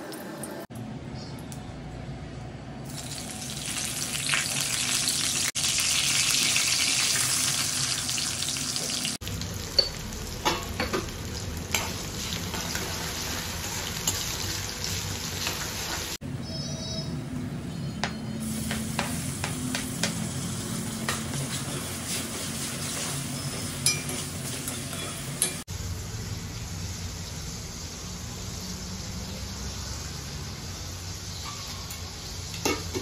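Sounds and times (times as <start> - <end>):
food sizzling in a pan: 2.9 - 16.2, 18.4 - 33.0.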